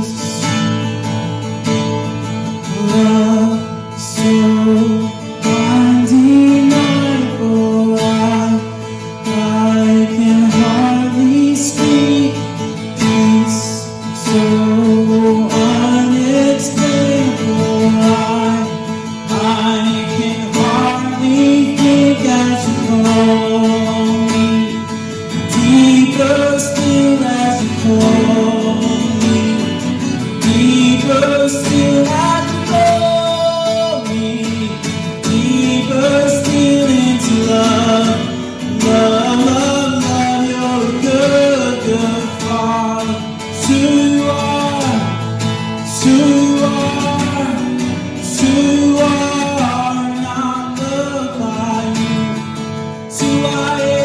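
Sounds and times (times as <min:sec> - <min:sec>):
person singing: 0:00.0 - 0:01.0, 0:02.4 - 0:54.0
strummed acoustic guitar: 0:00.0 - 0:54.0.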